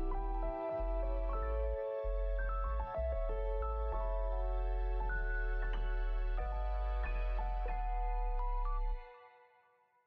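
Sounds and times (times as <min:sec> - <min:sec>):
soft background music: 0:00.0 - 0:09.8.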